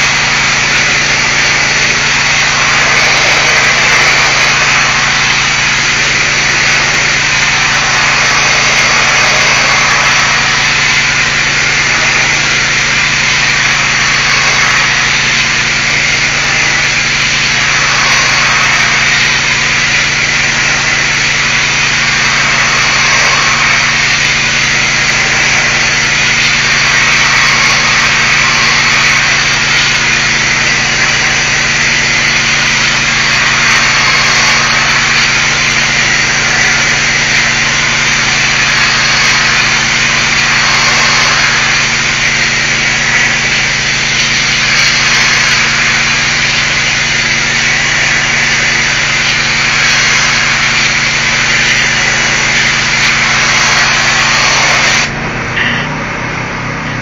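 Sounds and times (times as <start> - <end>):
pressure washer spray hissing: 0.0 - 55.2
engine hum: 0.0 - 57.0.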